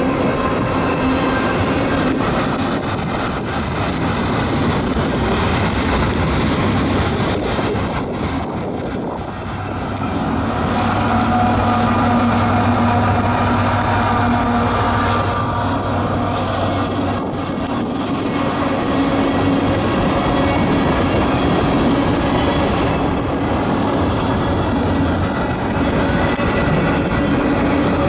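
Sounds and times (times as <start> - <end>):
locomotive engine hum: 0.0 - 28.0
train wheels rolling on rails: 0.0 - 28.0.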